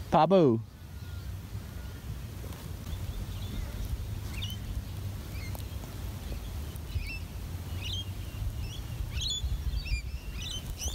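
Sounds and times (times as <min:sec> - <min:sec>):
faint high bird chirps: 0:00.6 - 0:02.0, 0:02.8 - 0:10.9
wind rumble on microphone: 0:00.7 - 0:10.9.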